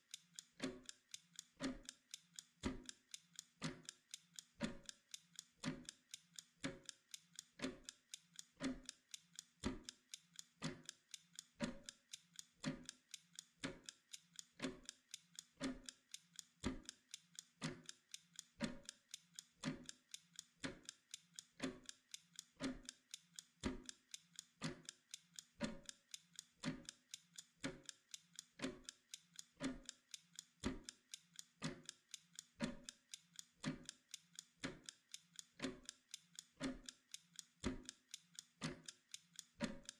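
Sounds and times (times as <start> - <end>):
timer ticking: 0.0 - 39.9.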